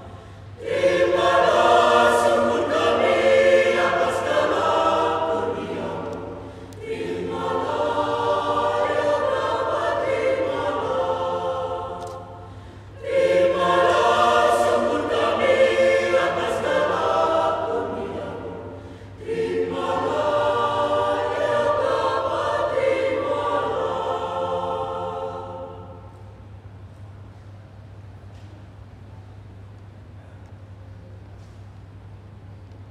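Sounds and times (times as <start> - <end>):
choir singing a hymn: 0.0 - 26.7.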